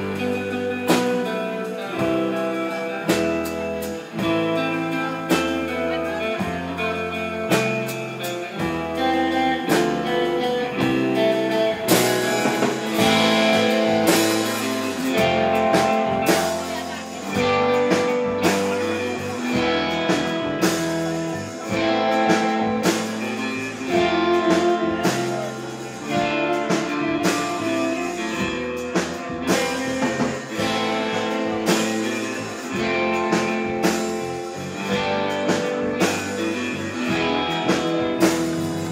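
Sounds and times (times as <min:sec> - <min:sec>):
bass: 0:00.0 - 0:38.9
drum kit beat: 0:00.0 - 0:38.9
electric guitar melody: 0:00.0 - 0:38.9.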